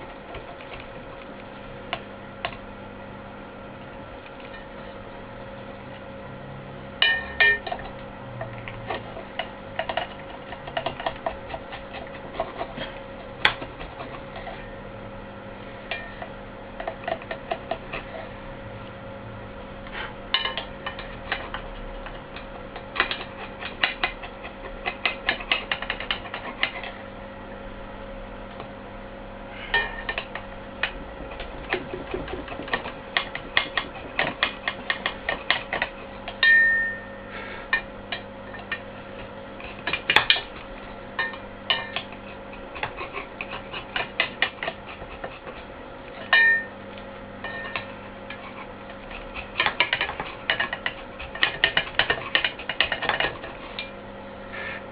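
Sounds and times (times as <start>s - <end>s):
steady hum: 0.0s - 54.9s.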